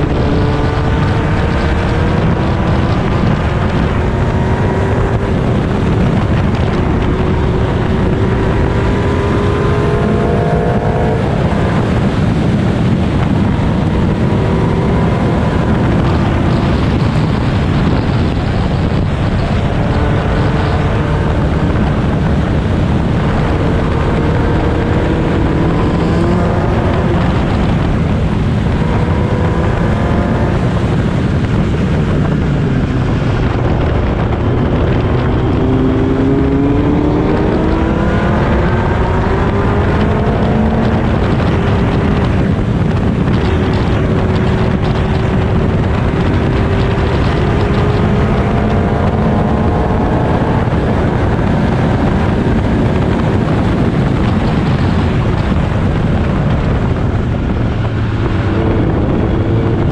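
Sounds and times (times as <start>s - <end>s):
racing car engine revving: 0.0s - 59.9s
wind and road rush: 0.0s - 59.9s.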